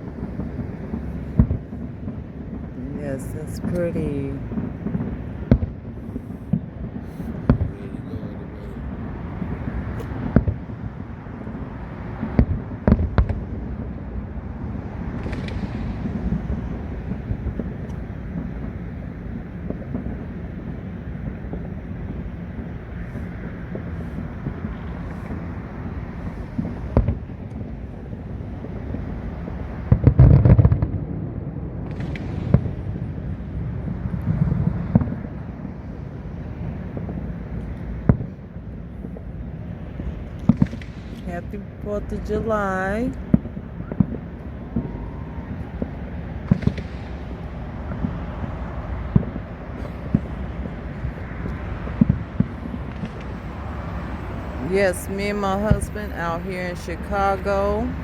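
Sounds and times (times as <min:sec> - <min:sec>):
background rumble: 0:00.0 - 0:58.0
fireworks bangs: 0:00.0 - 0:58.0.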